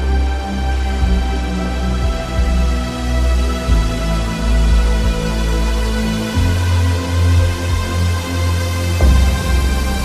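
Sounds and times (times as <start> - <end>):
ambient music with sustained bass: 0.0 - 10.0.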